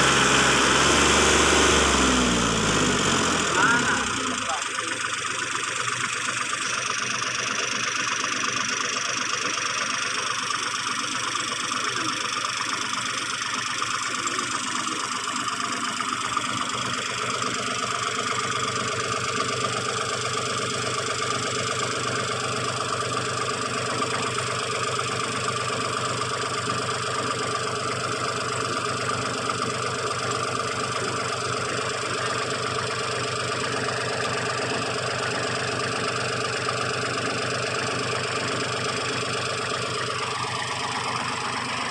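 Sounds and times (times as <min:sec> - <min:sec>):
heavy machine engine running: 0:00.0 - 0:41.9.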